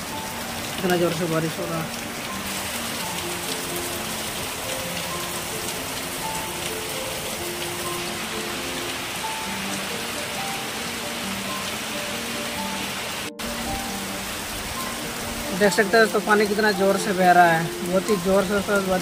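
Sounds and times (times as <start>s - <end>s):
heavy rain on metal roofs: 0.0s - 19.0s
soft background music: 0.0s - 19.0s.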